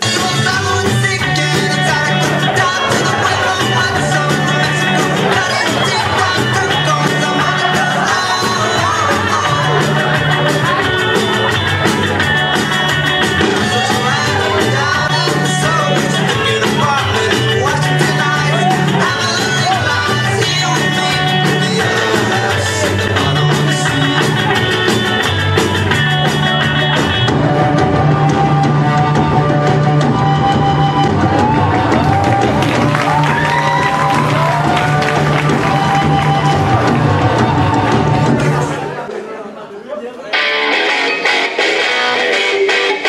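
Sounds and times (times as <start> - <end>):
repeating bass line: 0.0 - 38.8
music with singing: 0.0 - 39.0, 40.3 - 43.0.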